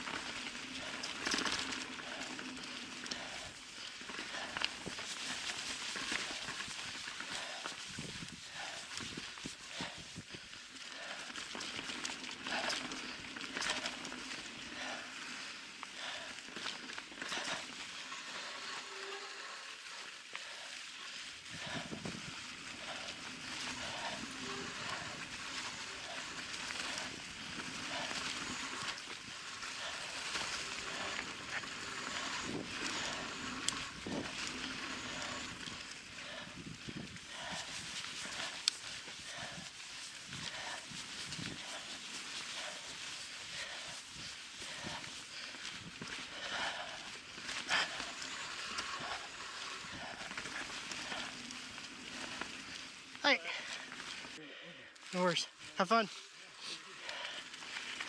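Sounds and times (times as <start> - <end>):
bike tyres on dirt trail: 0.0 - 58.0
hard rhythmic breathing: 0.1 - 58.0.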